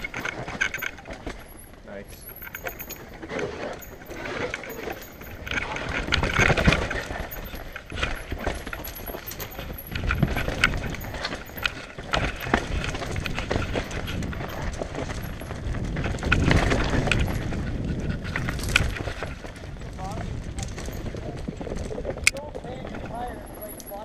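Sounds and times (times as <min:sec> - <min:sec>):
bike chain and frame rattling: 0:00.0 - 0:24.0
bike tyres rumbling over rocks: 0:02.7 - 0:24.0.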